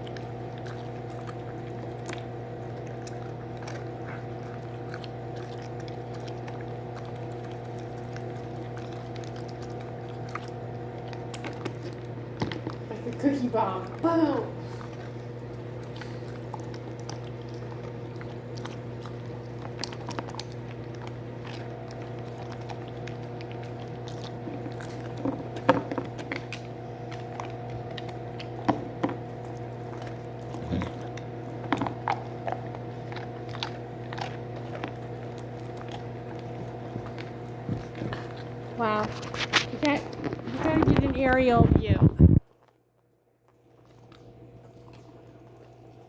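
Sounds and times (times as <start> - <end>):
dog crunching cookie: 0.0 - 41.6
steady low hum: 0.0 - 46.0.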